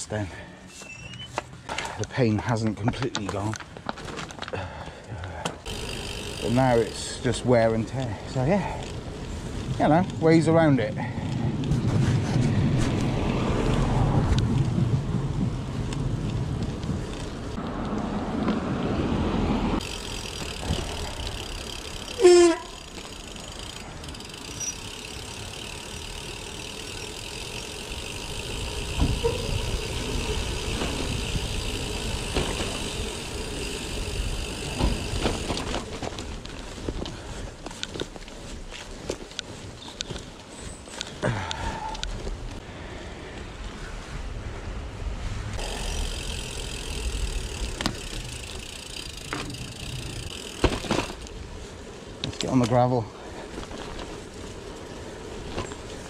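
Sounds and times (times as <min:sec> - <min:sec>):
bike tyres rumbling over gravel: 0:01.1 - 0:56.0.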